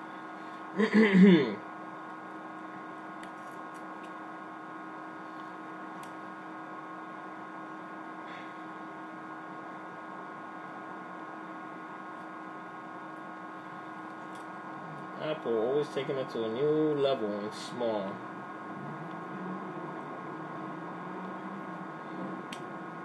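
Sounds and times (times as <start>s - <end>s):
constant hiss: 0.0s - 23.0s
electrical hum: 0.0s - 23.0s.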